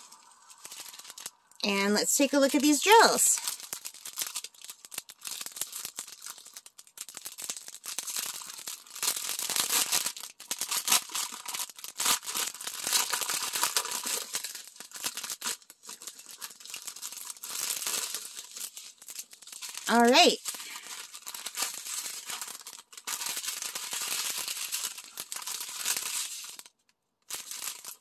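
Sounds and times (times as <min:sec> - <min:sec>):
plastic packets crinkling: 0:00.0 - 0:28.0
tiny beads rattling in plastic: 0:00.0 - 0:28.0.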